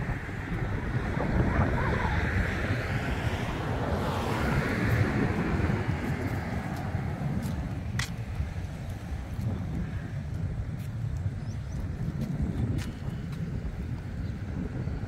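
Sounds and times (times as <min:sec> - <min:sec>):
outdoor noise: 0:00.0 - 0:15.0
wind buffeting microphone: 0:00.0 - 0:15.0.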